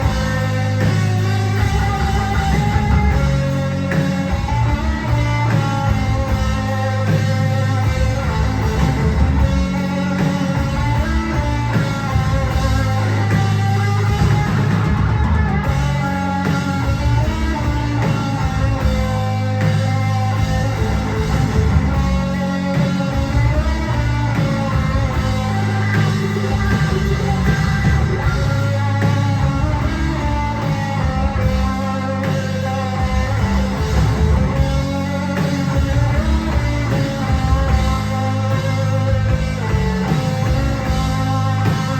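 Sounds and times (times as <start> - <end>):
drums: 0.0 - 41.9
electric guitar: 0.0 - 41.9
heavy bass: 0.0 - 41.9.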